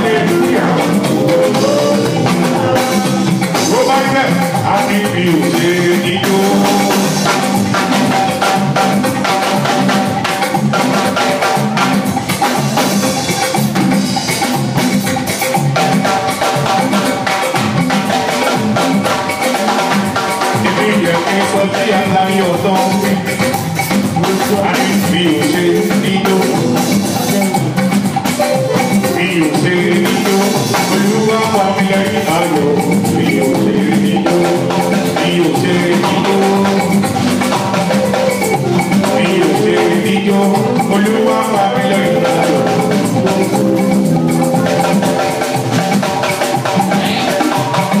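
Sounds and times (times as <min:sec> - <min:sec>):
bass line: 0:00.0 - 0:15.2, 0:20.6 - 0:45.9
drums and percussion beat: 0:00.0 - 0:48.0
live band music: 0:00.0 - 0:48.0.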